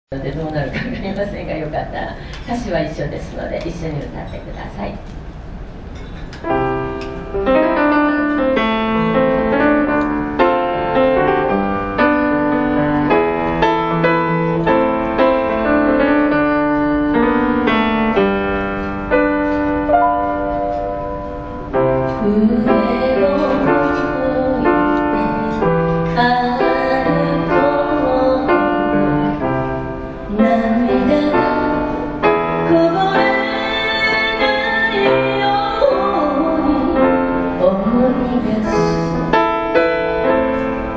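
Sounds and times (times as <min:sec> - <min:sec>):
piano playing: 0:05.4 - 0:40.9.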